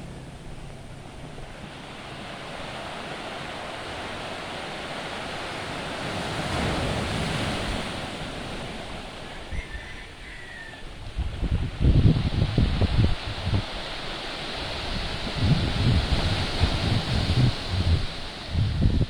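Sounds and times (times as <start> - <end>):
ocean surf breaking: 0.0 - 9.5, 10.8 - 19.0
wind rumbling on microphone: 0.0 - 19.0.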